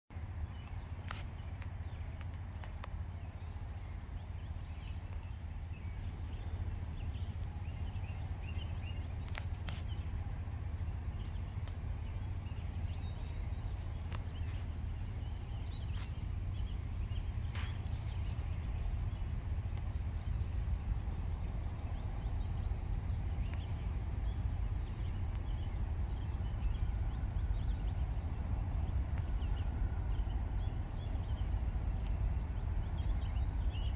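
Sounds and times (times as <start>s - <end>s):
low steady rumble: 0.1s - 33.9s.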